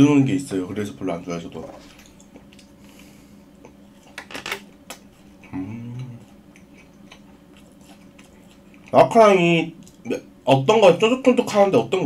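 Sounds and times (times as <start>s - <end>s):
closed-mouth hum while chewing: 0.7s - 12.0s.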